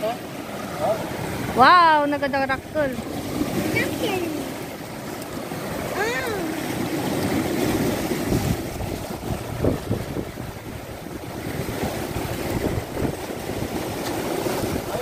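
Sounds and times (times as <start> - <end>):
sea surf washing over rocks: 0.0 - 15.0
wind buffeting microphone: 1.1 - 15.0.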